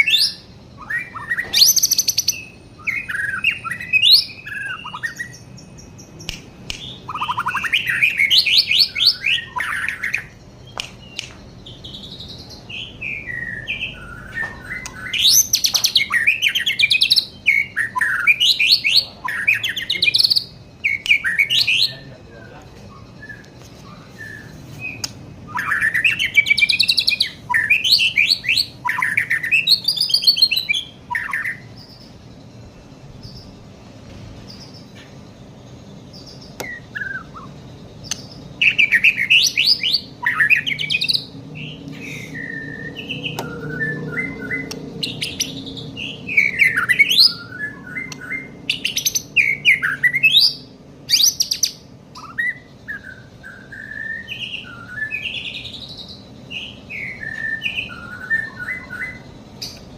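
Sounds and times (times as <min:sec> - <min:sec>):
bird singing whistled phrases: 0:00.0 - 0:06.0, 0:06.7 - 0:32.0, 0:36.2 - 0:59.8.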